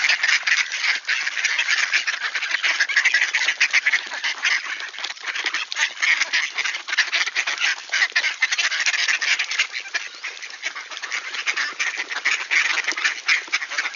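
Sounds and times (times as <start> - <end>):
ducks quacking: 0.0 - 13.9.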